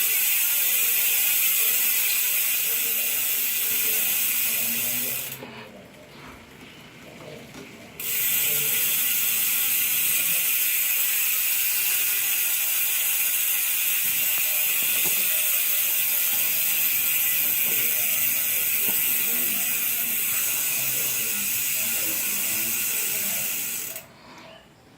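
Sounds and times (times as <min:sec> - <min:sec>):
bicycle hub freewheeling buzz: 0:00.0 - 0:05.4, 0:08.0 - 0:24.1.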